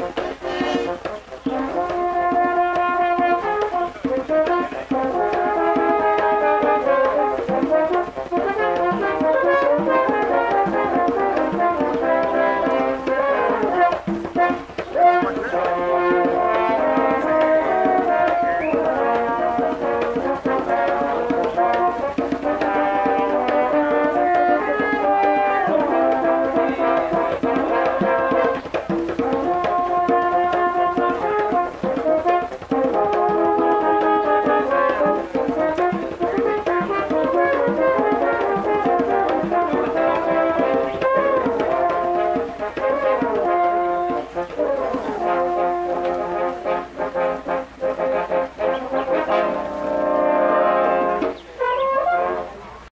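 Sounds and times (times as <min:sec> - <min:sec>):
barrel drum beat: 0:00.0 - 0:52.8
french horn quartet playing: 0:00.0 - 0:52.9.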